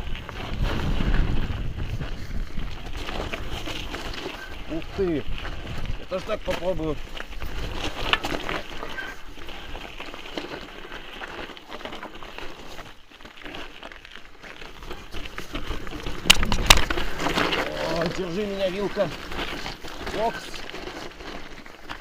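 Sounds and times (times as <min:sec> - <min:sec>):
bike rattling: 0:00.0 - 0:22.0
tyres crunching over loose stones: 0:00.0 - 0:22.0.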